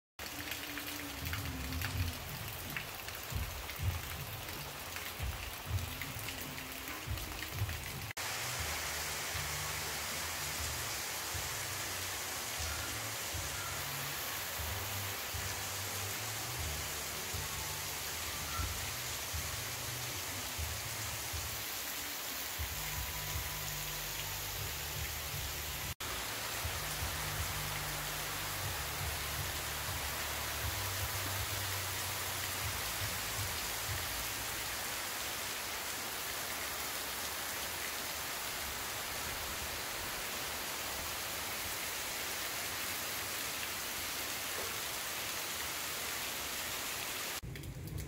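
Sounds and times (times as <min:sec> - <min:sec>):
heavy rain pouring: 0:00.2 - 0:48.0.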